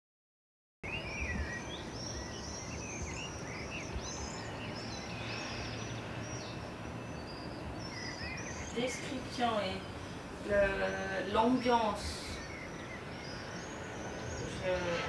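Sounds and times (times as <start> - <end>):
many birds chirping and calling: 0.9 - 15.0.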